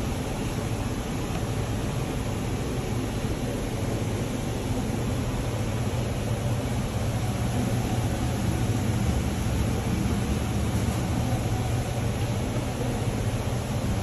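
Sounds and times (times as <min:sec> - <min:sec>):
machine hum with low drone: 0:00.0 - 0:14.0.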